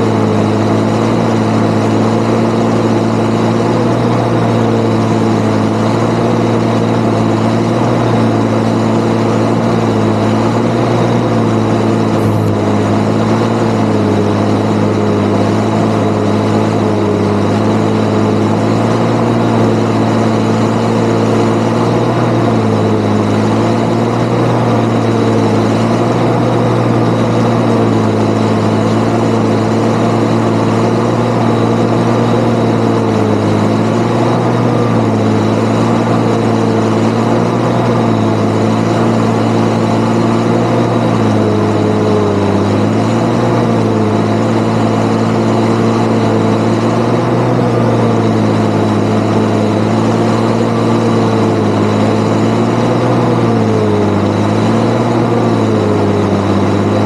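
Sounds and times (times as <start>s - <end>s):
steady high whine: 0.0s - 57.0s
tractor diesel engine running: 0.0s - 57.0s.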